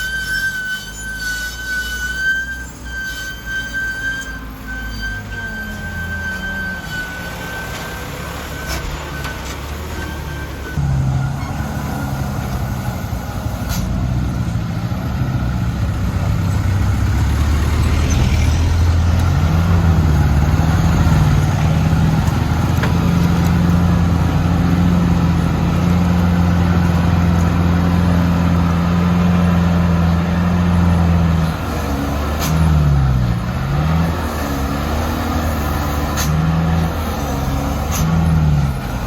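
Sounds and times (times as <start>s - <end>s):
truck diesel engine drone: 0.0s - 39.0s.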